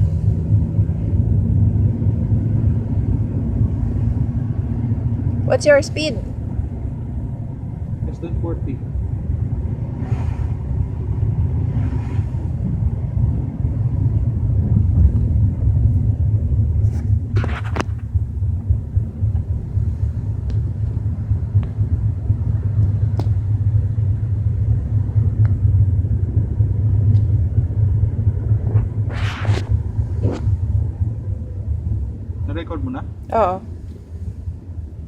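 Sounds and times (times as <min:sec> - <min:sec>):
low rumble inside car cabin: 0:00.0 - 0:35.0.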